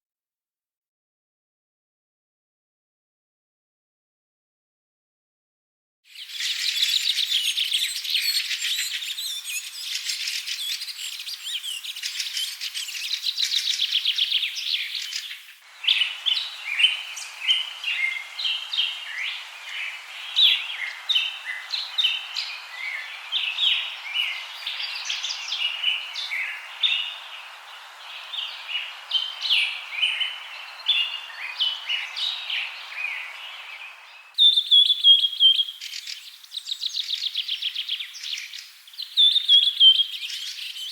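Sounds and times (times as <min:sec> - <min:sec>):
birds chirping and singing: 0:06.2 - 0:40.9.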